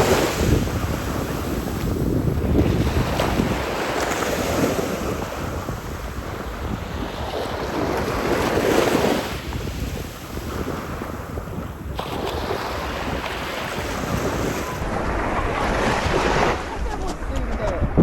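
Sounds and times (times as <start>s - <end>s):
sea waves washing onto shore: 0.0s - 18.0s
wind buffeting microphone: 0.0s - 18.0s.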